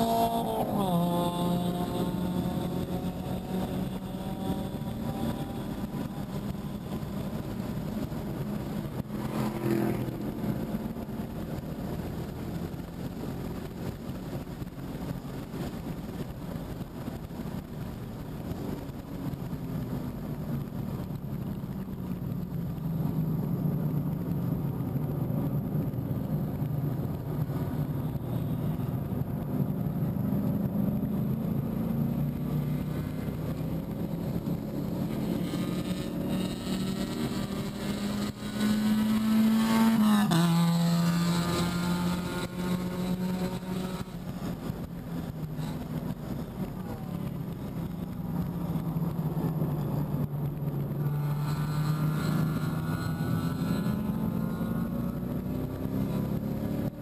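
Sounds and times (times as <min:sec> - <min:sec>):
car engine running hard: 0:00.0 - 0:57.0
wind and road noise: 0:00.0 - 0:57.0.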